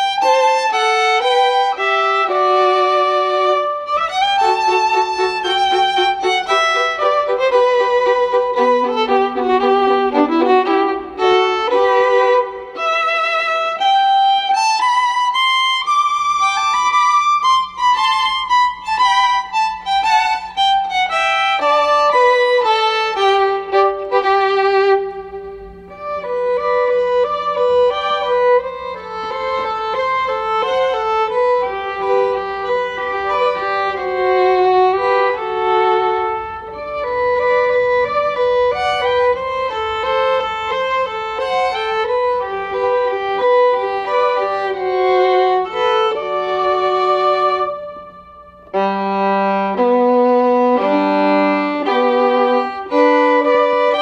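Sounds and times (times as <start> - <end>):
violin slow melody: 0.0 - 54.0.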